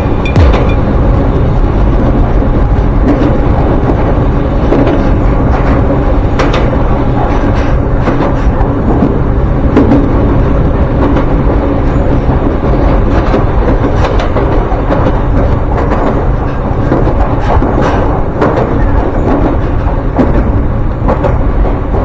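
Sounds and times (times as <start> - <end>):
wheels clacking over rail joints: 2.9 - 22.0.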